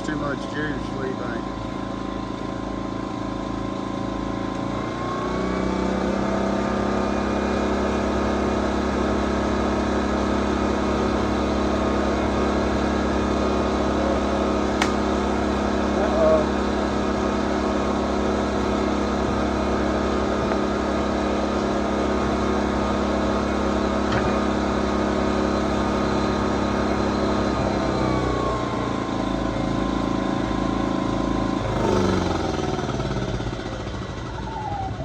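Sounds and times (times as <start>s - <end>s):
generator engine running: 0.0s - 35.0s.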